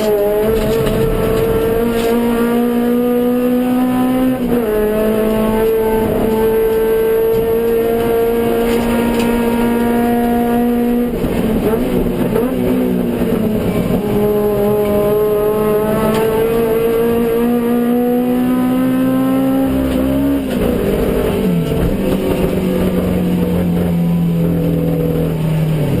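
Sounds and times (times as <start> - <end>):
car engine racing at high revs: 0.0 - 26.0.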